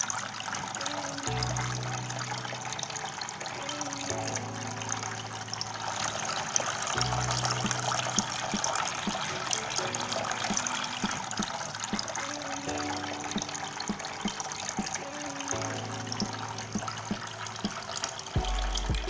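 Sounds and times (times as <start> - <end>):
fountain water trickling: 0.0 - 19.0
soft background music: 0.0 - 19.0.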